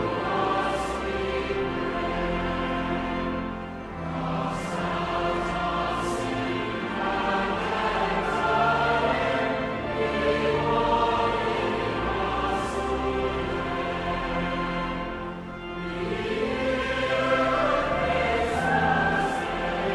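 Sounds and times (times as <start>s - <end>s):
choir singing: 0.0s - 19.9s.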